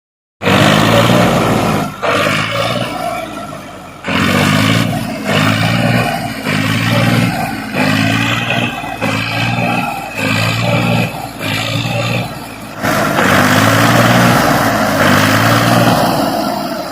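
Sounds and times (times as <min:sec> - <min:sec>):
tractor engine surging: 0:00.4 - 0:16.9.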